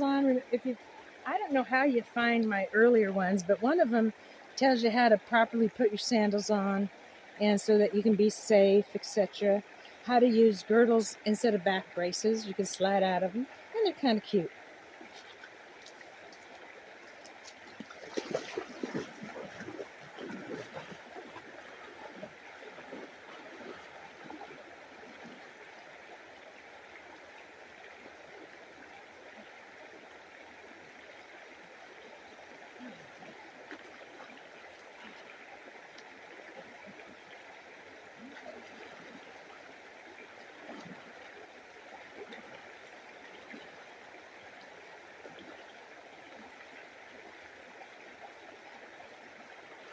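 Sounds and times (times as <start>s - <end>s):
water splashing: 0.0s - 30.9s, 31.5s - 47.6s
creek running: 0.0s - 49.9s.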